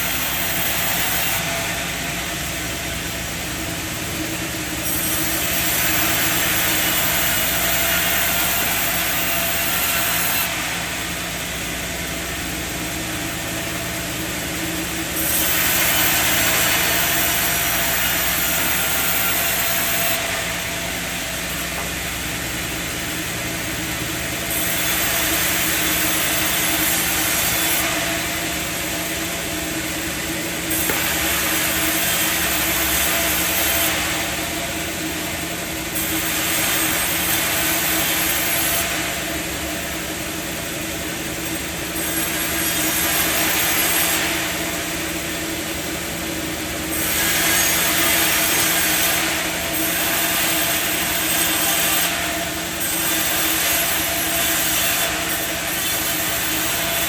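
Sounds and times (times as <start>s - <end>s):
saw hissing through wood: 0.0s - 57.0s
sawmill machinery humming: 0.0s - 57.0s.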